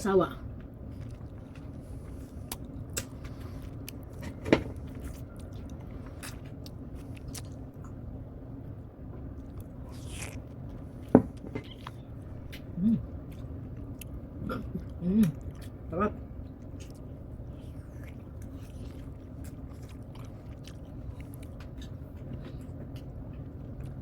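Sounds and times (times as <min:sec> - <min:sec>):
steady low hum: 0:00.0 - 0:24.0
person chewing cake: 0:00.5 - 0:24.0.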